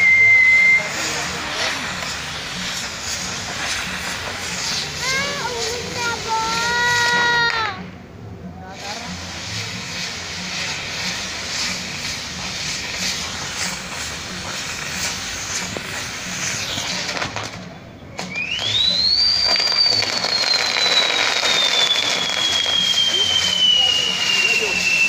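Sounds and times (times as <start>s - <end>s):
firework whistle: 0.0s - 7.9s, 8.8s - 25.0s
fireworks fountains hissing: 0.0s - 25.0s.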